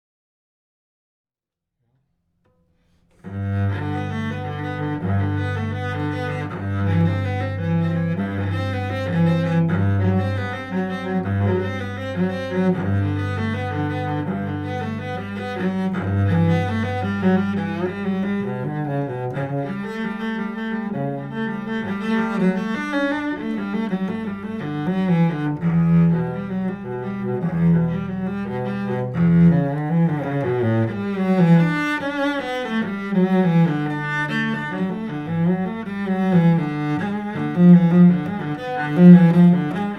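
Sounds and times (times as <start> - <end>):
cello bowed low notes: 2.9 - 39.9.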